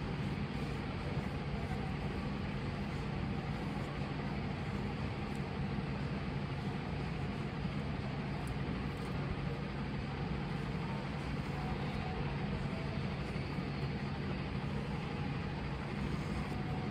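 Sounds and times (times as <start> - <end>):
low hum: 0.0 - 16.9
low rumble and hiss: 0.0 - 16.9.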